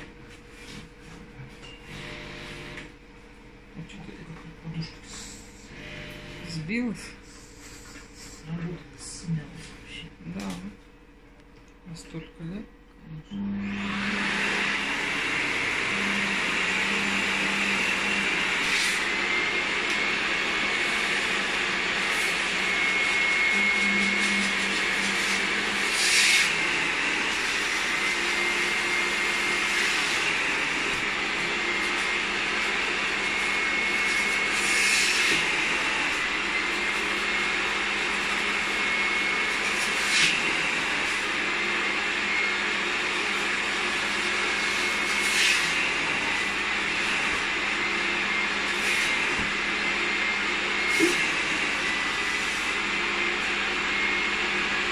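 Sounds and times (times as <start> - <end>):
vacuum cleaner running: 0.0 - 11.0, 13.2 - 54.9.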